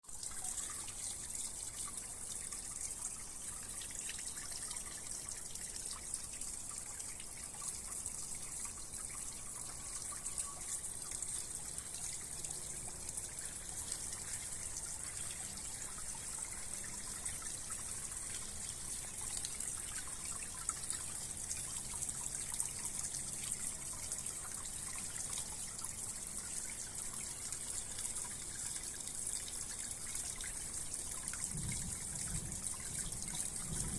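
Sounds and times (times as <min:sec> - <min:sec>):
water trickling over stones: 0:00.0 - 0:33.9.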